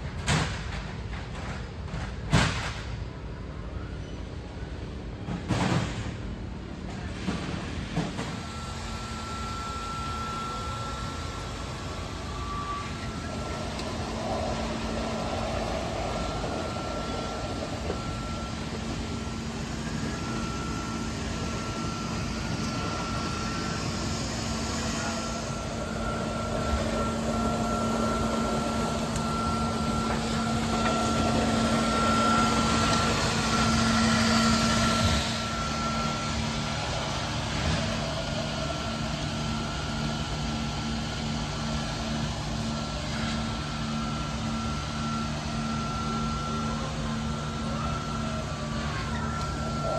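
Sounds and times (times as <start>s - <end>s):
floor scrubber motors humming: 7.1s - 49.9s.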